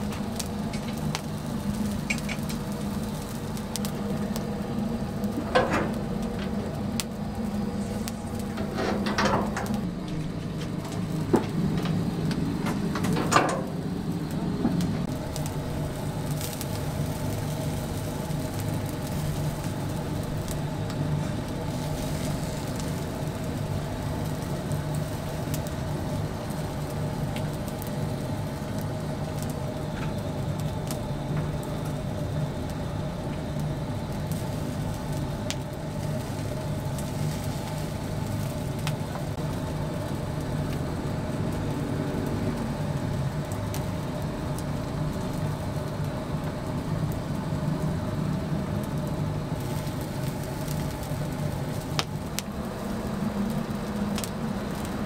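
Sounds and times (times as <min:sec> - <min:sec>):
burning wood crackling: 0:00.0 - 0:55.0
rotisserie mechanical hum: 0:00.0 - 0:55.0.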